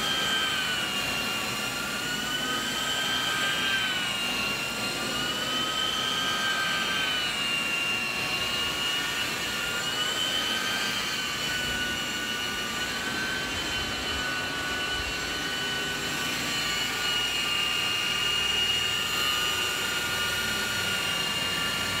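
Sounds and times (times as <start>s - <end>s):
vacuum machine whine: 0.0s - 22.0s.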